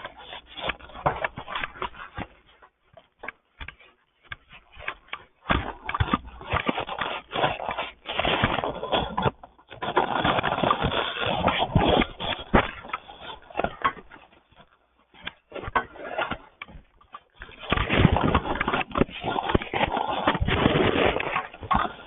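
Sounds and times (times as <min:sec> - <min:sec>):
scratchy rubbing and scraping: 0:00.0 - 0:22.0.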